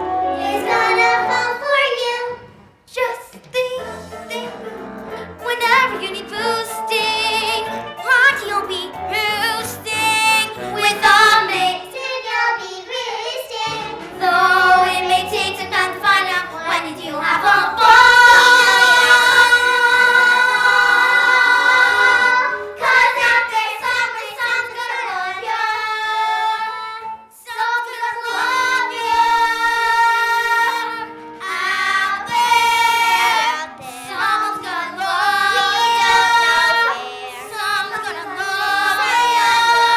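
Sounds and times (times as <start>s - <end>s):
backing music: 0.0s - 2.8s, 3.4s - 39.9s
young voices singing: 0.0s - 39.9s.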